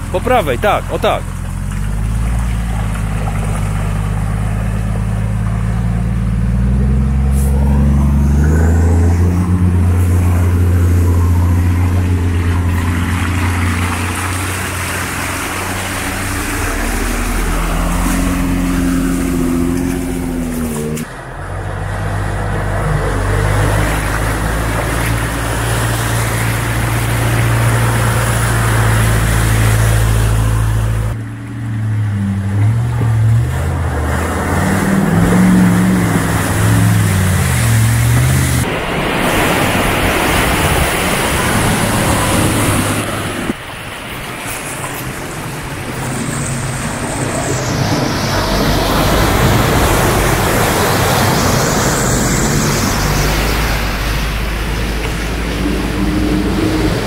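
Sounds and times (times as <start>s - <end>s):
off-road engines pulling: 0.0s - 57.0s
water splashing around tyres: 0.0s - 57.0s.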